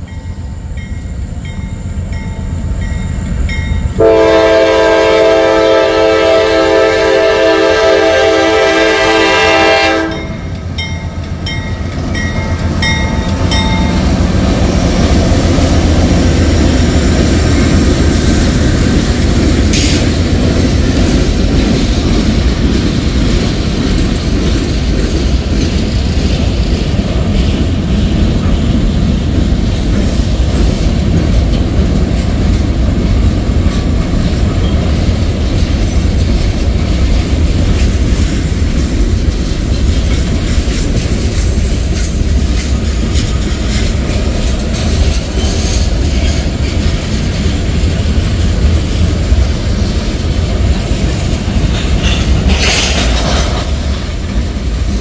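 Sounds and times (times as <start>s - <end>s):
train wheels rumbling on rail: 0.0s - 55.0s
wheels clacking over rail joints: 10.2s - 55.0s.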